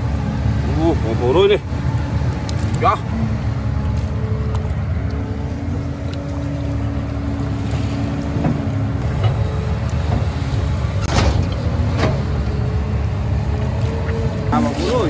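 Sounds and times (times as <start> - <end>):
small engine drone: 0.0 - 15.0.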